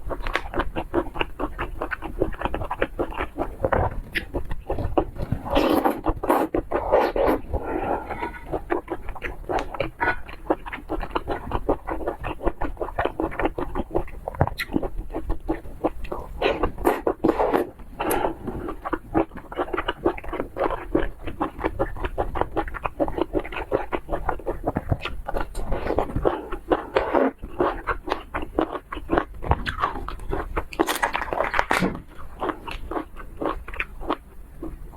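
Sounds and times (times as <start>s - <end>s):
mouth clicks and smacks: 0.0s - 34.9s
person chewing: 0.0s - 34.9s.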